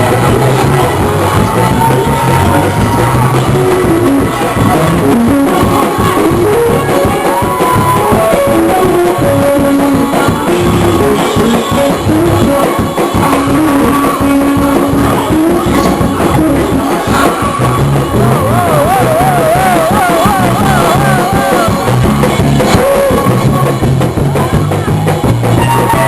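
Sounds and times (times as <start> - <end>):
church band playing fast groove: 0.0 - 26.0
congregation noise: 0.0 - 26.0
person singing: 0.0 - 26.0.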